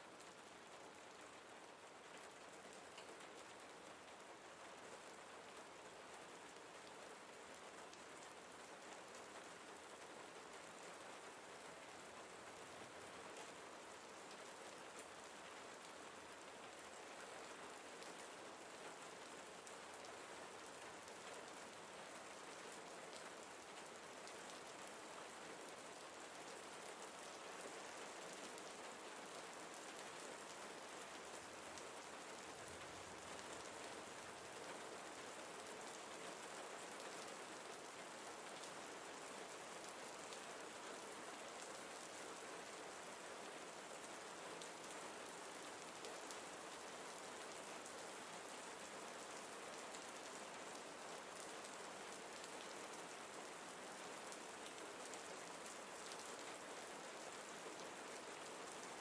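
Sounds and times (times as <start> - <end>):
faint rain falling: 0.0 - 59.0.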